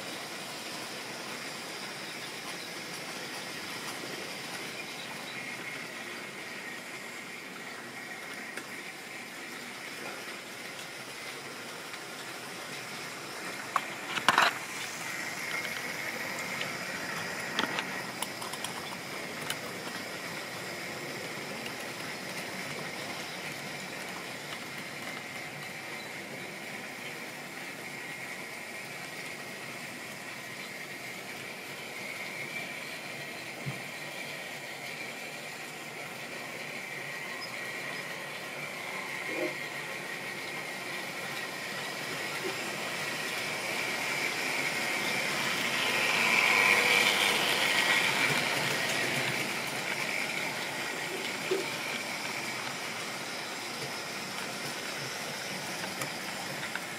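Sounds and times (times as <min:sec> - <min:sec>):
model train motors whirring: 0:00.0 - 0:56.9.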